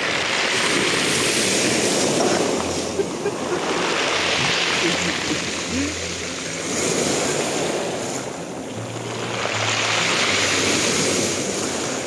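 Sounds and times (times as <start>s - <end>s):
surf washing over pebbles: 0.0s - 12.0s.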